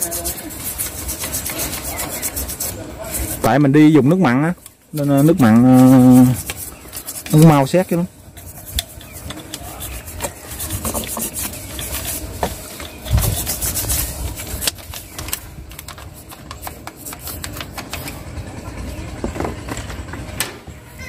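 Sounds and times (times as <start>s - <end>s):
hand tool scraping rusty metal: 0.0s - 18.2s.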